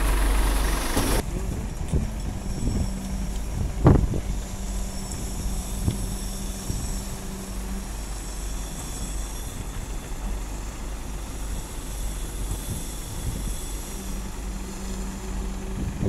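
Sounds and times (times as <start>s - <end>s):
concrete pump engine drone: 0.0s - 16.0s
steady hum: 0.0s - 16.0s.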